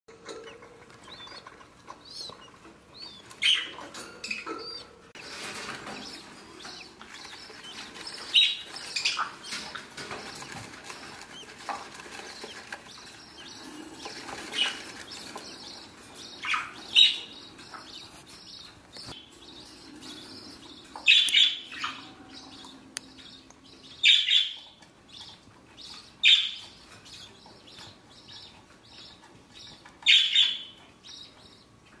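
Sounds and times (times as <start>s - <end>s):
budgerigars chirping and squawking: 0.2s - 31.8s.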